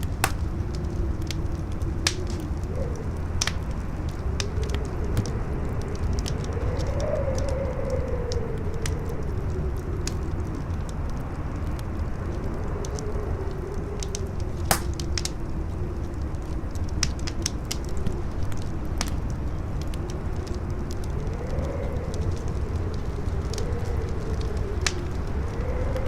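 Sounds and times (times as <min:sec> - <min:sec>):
campfire crackling: 0:00.0 - 0:26.0
howling wind: 0:00.0 - 0:26.0.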